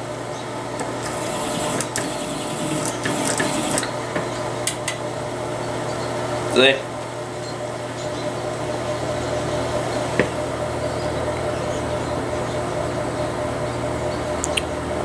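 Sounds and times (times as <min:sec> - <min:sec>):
small machine humming: 0:00.0 - 0:15.0.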